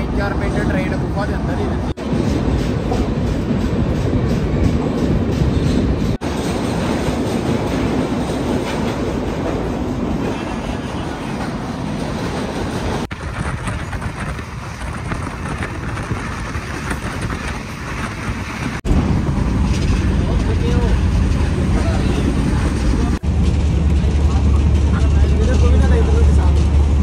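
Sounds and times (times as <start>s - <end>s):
train wheel and rail rush: 0.0s - 27.0s.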